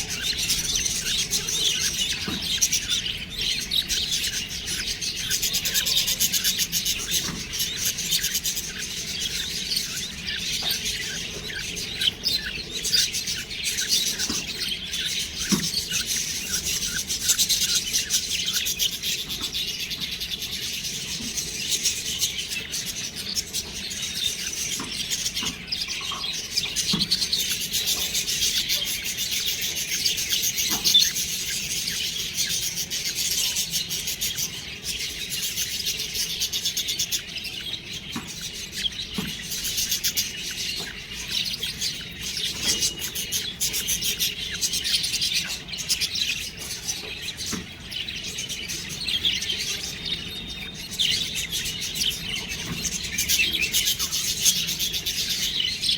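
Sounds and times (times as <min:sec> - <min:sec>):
budgerigars chirping: 0:00.0 - 0:55.9.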